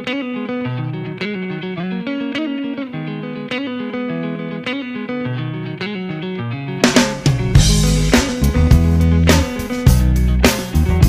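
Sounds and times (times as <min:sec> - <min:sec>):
picked rock guitar riff: 0:00.0 - 0:11.0.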